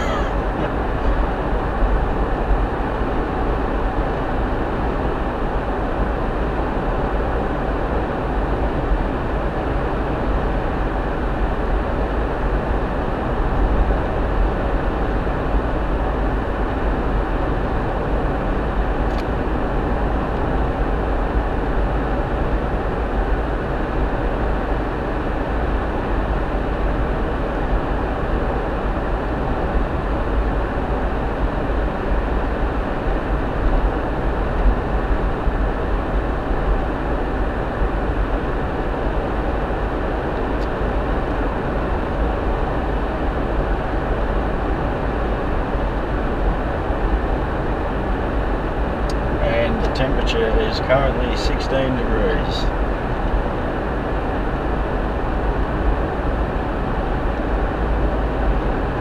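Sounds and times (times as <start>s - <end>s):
car road noise drone: 0.0s - 59.0s.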